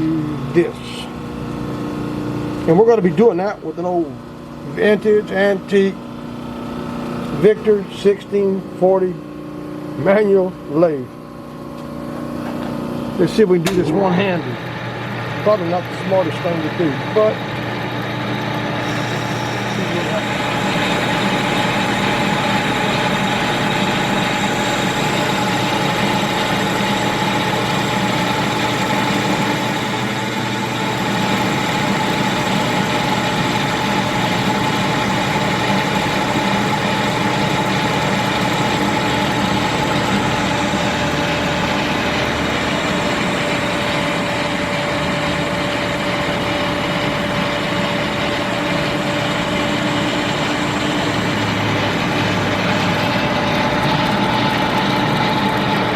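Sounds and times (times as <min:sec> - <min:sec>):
lathe running with whine: 0:00.0 - 0:55.9.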